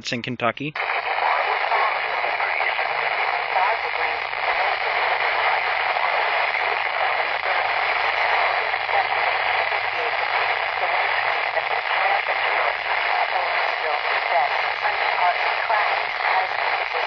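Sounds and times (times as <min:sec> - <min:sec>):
radio static hiss: 0:00.8 - 0:17.0.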